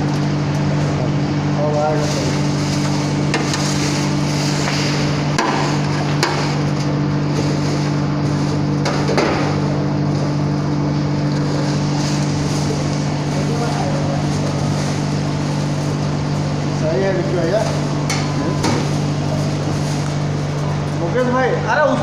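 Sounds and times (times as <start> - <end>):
frying machine humming: 0.0 - 22.0.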